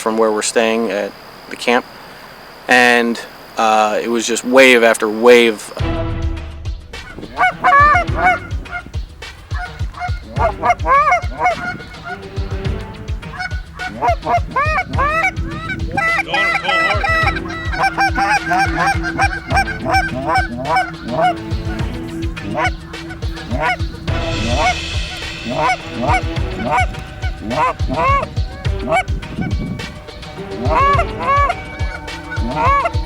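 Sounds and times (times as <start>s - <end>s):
geese honking: 0.0s - 5.8s, 7.0s - 33.0s.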